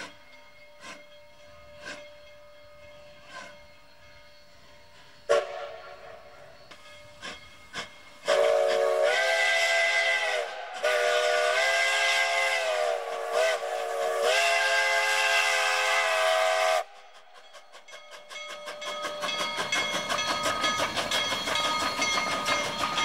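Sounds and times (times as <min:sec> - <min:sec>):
steam locomotive chime whistle: 0:00.0 - 0:23.0.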